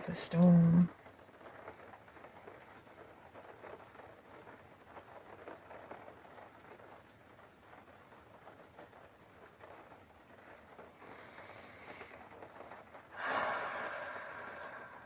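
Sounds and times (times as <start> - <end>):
faint rain patter: 0.0 - 15.0.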